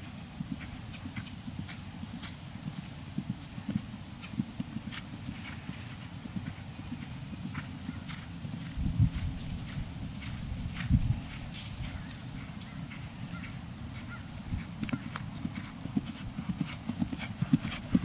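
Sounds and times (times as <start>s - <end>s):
hoofbeats on turf: 0.0s - 18.0s.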